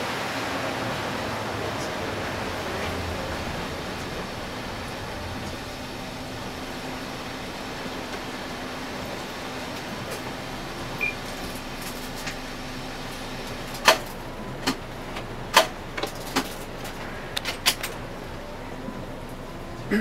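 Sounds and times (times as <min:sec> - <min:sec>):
bus cabin noise: 0:00.0 - 0:20.0.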